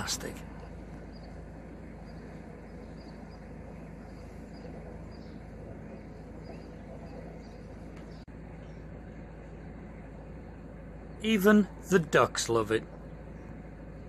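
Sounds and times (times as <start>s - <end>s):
boat engine running: 0.0s - 14.0s
small birds chirping: 0.0s - 14.0s.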